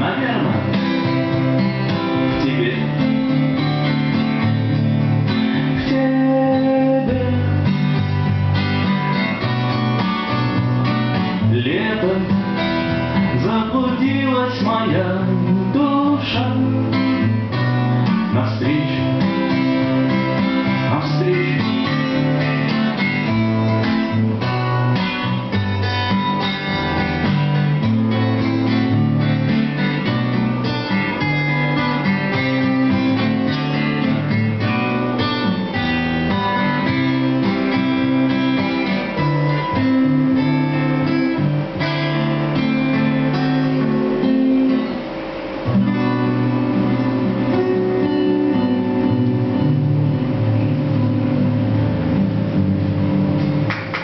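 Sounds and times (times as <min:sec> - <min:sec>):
acoustic guitars playing: 0:00.0 - 0:54.0.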